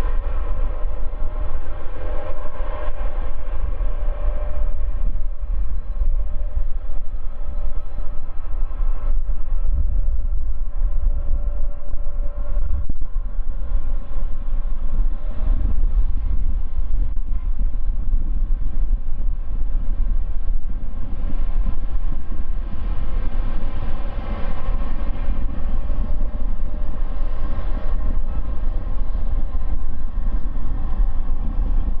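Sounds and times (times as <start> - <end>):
jet engine roar: 0.0 - 32.0.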